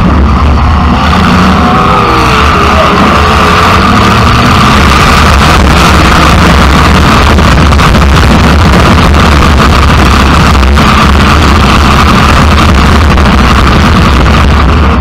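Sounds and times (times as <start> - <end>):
loud car engine running: 0.0 - 15.0.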